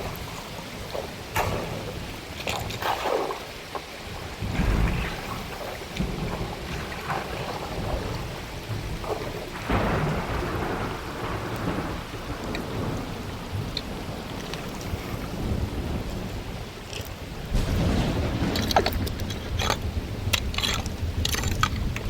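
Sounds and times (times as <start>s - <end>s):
heavy rain falling: 0.0s - 22.0s
thunder rumbles: 0.0s - 22.0s.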